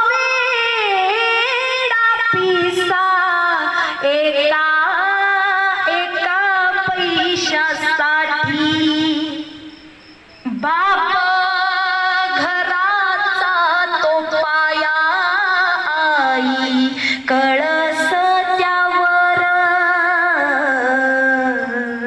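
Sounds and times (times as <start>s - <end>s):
woman singing with vibrato: 0.0s - 22.0s.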